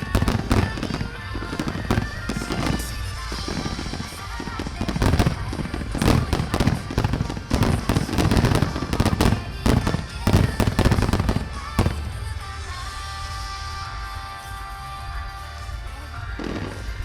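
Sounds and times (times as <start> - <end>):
fireworks booming and crackling: 0.0 - 14.4, 16.4 - 17.0.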